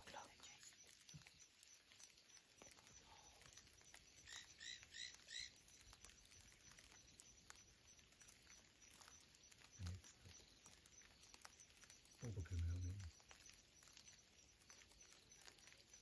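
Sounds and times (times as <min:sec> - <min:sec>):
high chirps: 0:00.0 - 0:16.0.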